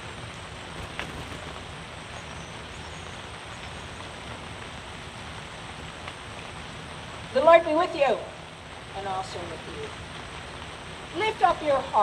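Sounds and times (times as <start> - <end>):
rain on fabric tent: 0.0 - 12.0.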